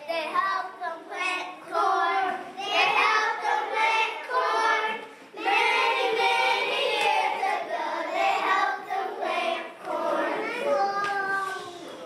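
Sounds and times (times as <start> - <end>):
young children singing: 0.0 - 12.0.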